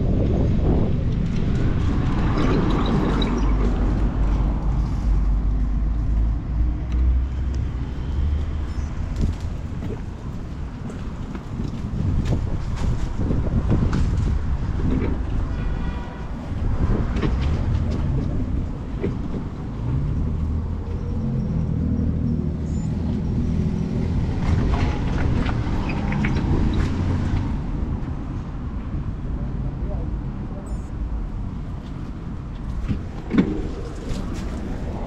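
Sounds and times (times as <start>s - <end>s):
vehicle engine rumbling: 0.0s - 35.0s.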